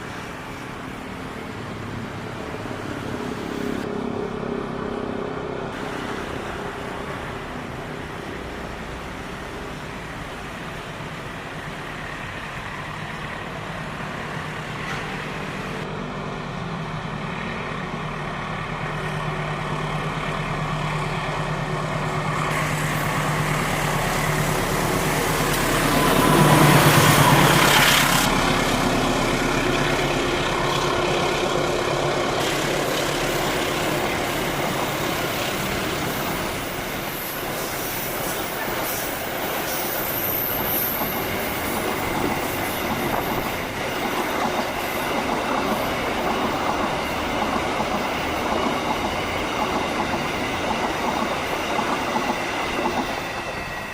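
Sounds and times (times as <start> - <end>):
diesel locomotive engine drone: 0.0 - 53.9
freight train rolling past: 0.0 - 53.9.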